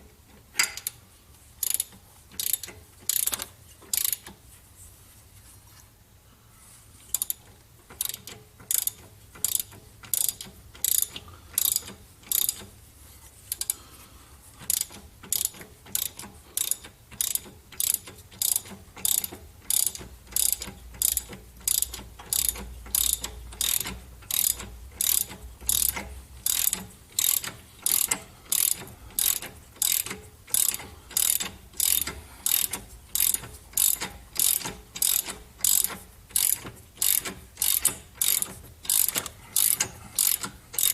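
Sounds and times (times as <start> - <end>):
ratchet wrench clicking: 1.6 - 4.4, 7.1 - 12.7, 13.5 - 13.8, 14.7 - 40.9.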